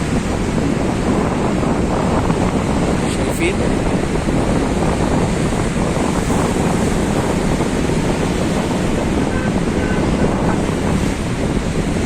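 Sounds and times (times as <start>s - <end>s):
sea surf: 0.0s - 12.0s
wind buffeting microphone: 0.0s - 12.0s.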